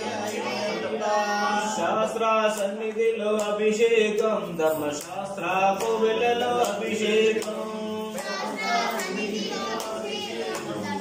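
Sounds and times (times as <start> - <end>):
voices chanting devotional song: 0.0 - 11.0.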